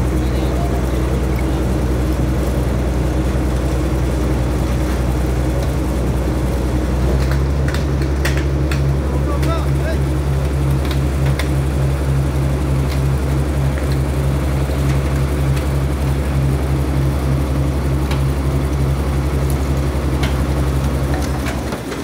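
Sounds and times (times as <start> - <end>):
crane engine running under load: 0.0 - 22.0.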